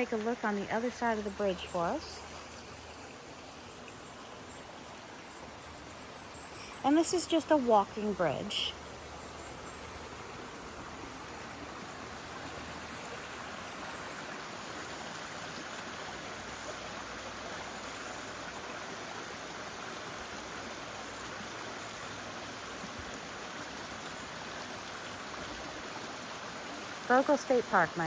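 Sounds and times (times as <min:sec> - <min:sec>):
stream flowing over rocks: 0:00.0 - 0:28.0.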